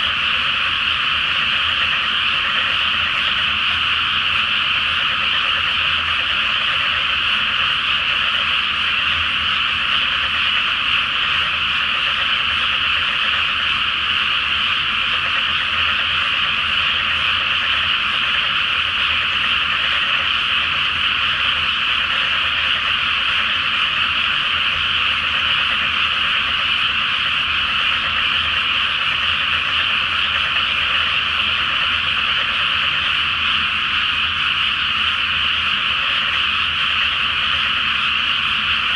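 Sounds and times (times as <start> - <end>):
frogs croaking in chorus: 0.0 - 38.9.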